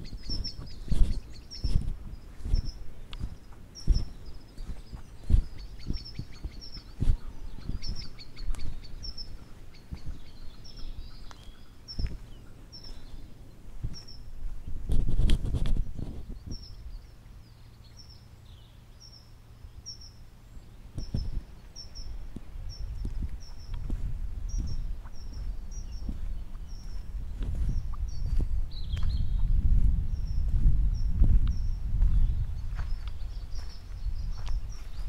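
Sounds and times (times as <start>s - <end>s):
small bird chirping: 0.0s - 35.0s.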